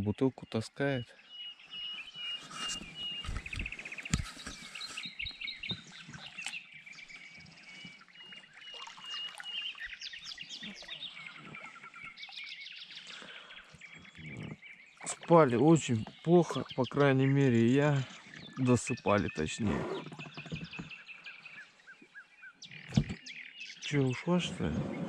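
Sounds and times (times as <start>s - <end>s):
birds singing and chirping: 0.0s - 25.0s.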